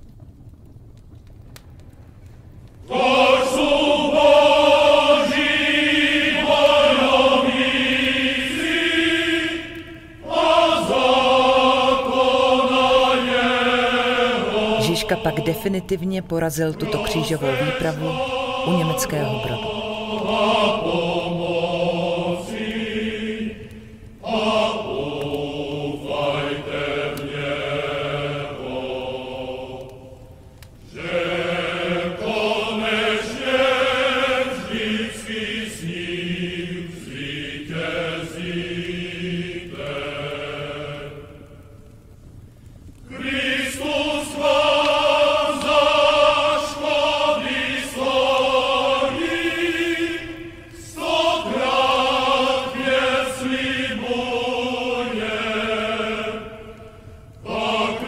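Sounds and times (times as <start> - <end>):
choir chanting: 2.8 - 42.0, 43.0 - 58.0.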